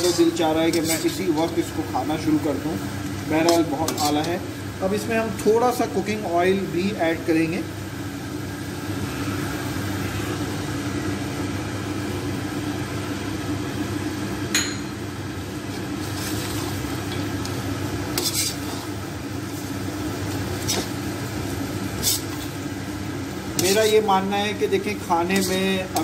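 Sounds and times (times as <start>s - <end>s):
low hum with hiss: 0.0s - 26.0s.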